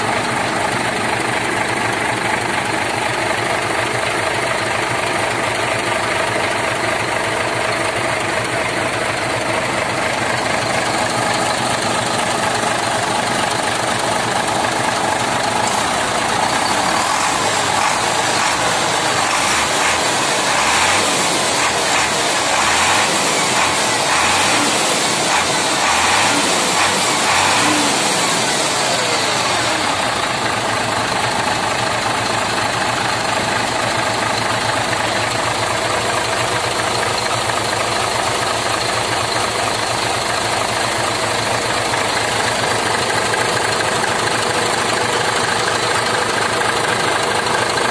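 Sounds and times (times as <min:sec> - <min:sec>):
diesel truck engine revving: 0:07.8 - 0:47.9.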